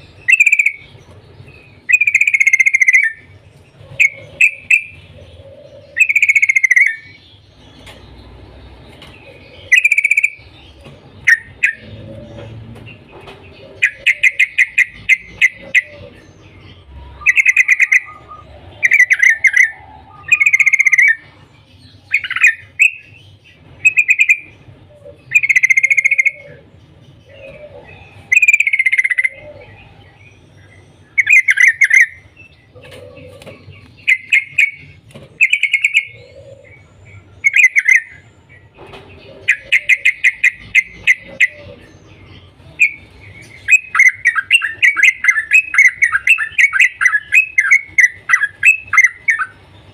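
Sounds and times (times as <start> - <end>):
bulbul singing: 0.0 - 49.9.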